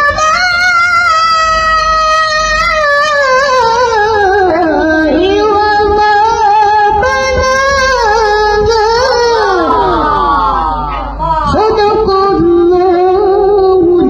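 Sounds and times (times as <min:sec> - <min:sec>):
young voice chanting melodically: 0:00.0 - 0:14.0.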